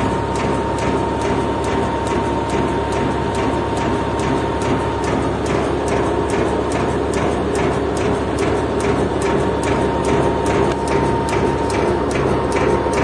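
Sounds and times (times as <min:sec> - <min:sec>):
concrete pump machinery running: 0:00.0 - 0:13.0.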